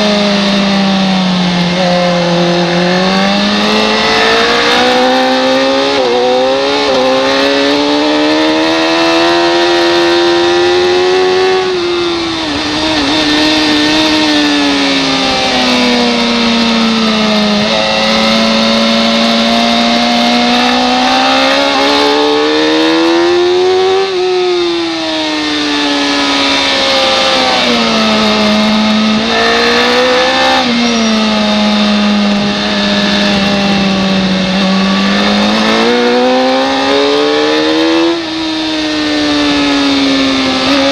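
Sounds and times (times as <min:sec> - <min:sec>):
racing motorcycle engine: 0:00.0 - 0:40.9
wind noise: 0:00.0 - 0:40.9.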